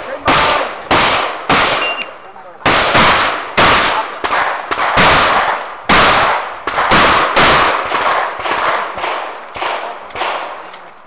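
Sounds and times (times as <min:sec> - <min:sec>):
shotgun shots: 0:00.0 - 0:10.9.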